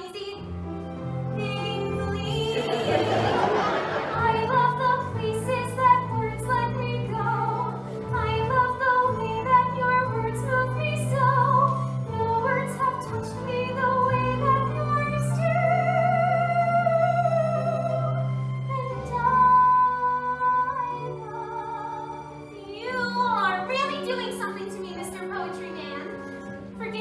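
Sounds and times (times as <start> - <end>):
woman singing: 0.0 - 0.6, 1.3 - 3.2, 4.1 - 26.2
orchestral accompaniment: 0.4 - 27.0.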